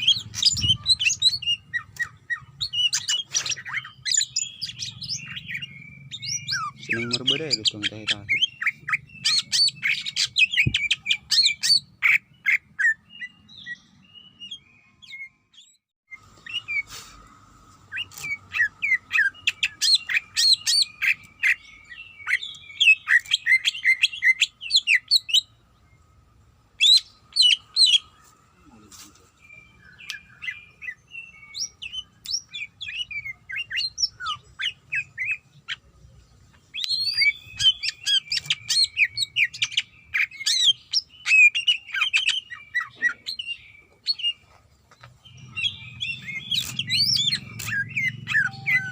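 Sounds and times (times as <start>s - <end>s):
bird singing chattering song: 0.0s - 48.9s.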